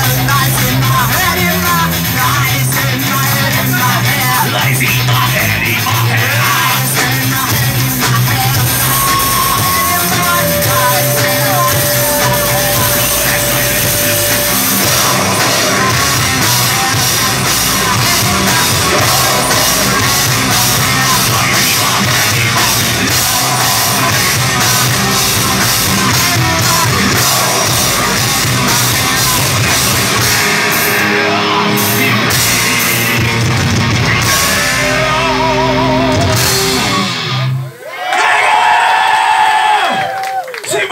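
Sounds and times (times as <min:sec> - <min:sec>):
person singing: 0:00.0 - 0:33.4, 0:34.0 - 0:36.9
heavy metal band playing live: 0:00.0 - 0:37.8.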